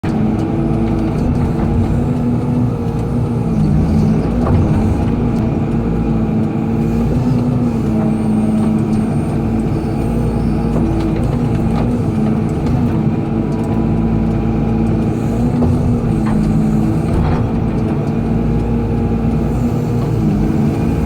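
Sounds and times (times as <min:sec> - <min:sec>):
excavator diesel engine running: 0:00.0 - 0:21.0
light clicks and knocks: 0:00.1 - 0:21.0.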